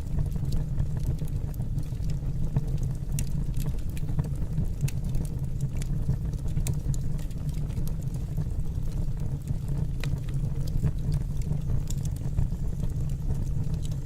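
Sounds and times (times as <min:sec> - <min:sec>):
low rumble of fire: 0:00.0 - 0:14.0
wood fire crackling and popping: 0:00.0 - 0:14.0.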